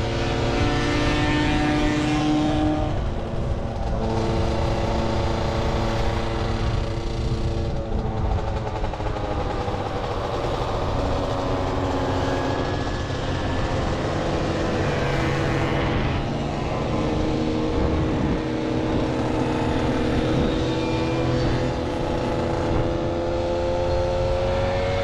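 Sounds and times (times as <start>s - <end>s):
moped engine running: 0.0s - 25.0s
other moped engines: 0.0s - 25.0s
wind rumbling on microphone: 0.0s - 25.0s.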